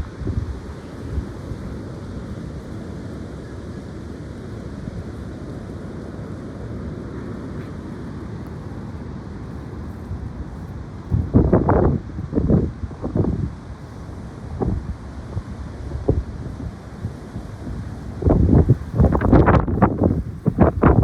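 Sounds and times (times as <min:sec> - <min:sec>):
high wind blowing: 0:00.0 - 0:21.0
wind gusts buffeting microphone: 0:00.0 - 0:21.0.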